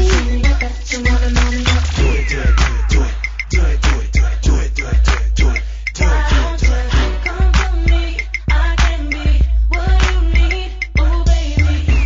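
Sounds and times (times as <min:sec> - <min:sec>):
hip hop beat: 0:00.0 - 0:12.0.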